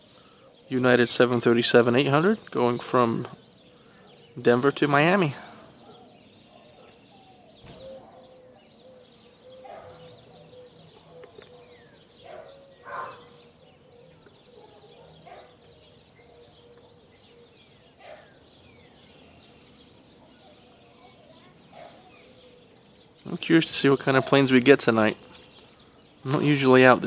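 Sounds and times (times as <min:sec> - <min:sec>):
distant birds chirping: 0:00.0 - 0:27.0.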